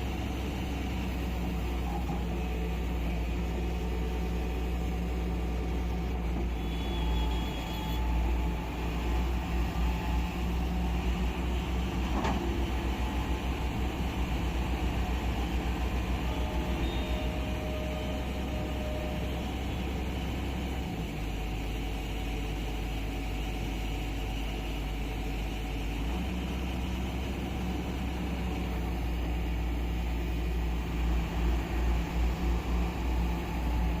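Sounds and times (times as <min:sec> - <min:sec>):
diesel construction machine engine: 0:00.0 - 0:34.0.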